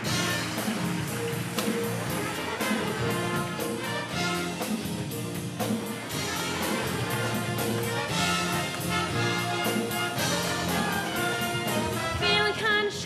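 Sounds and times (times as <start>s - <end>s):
steady beat: 0.0s - 12.2s
brass instrumental music: 0.0s - 13.0s.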